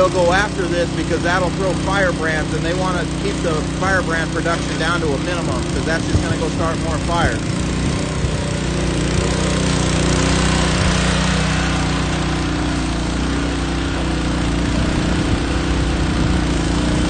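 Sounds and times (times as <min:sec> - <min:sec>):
small pump engine running: 0:00.0 - 0:17.0.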